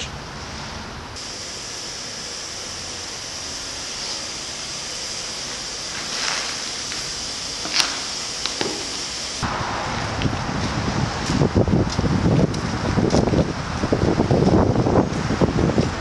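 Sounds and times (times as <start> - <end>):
steady hissing noise: 0.0 - 16.0.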